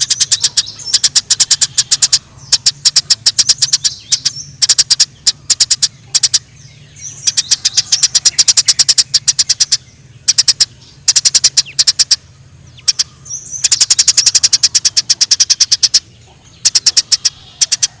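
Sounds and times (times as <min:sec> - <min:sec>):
sparrows chirping: 0:00.0 - 0:18.0.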